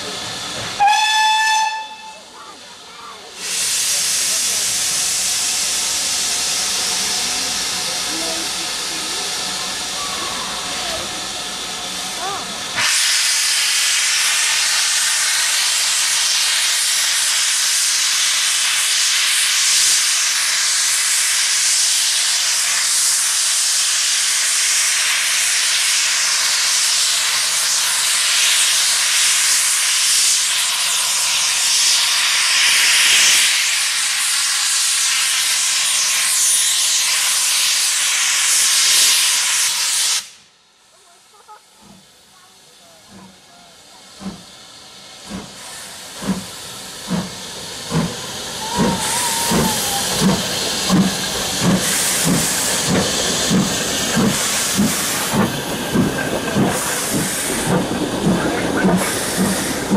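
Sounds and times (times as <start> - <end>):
steam hissing loudly: 0.0 - 59.9.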